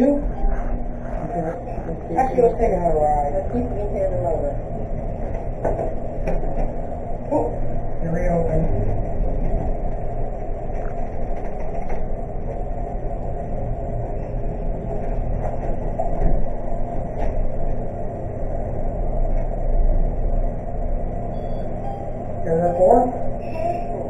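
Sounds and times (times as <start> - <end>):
elevator rumble and hum: 0.0 - 24.0.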